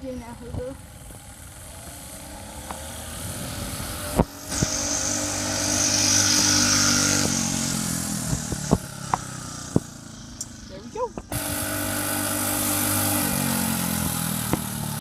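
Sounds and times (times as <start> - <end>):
go-kart engine passing: 0.0 - 15.0.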